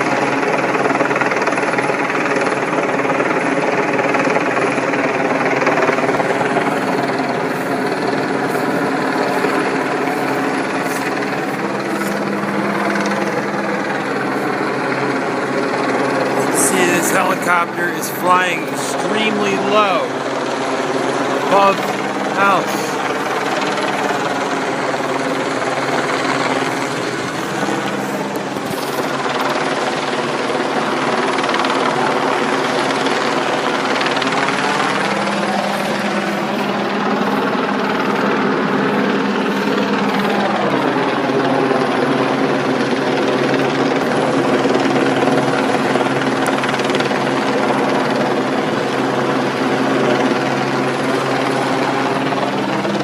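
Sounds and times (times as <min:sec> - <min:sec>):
helicopter rotor and engine drone: 0:00.0 - 0:53.0.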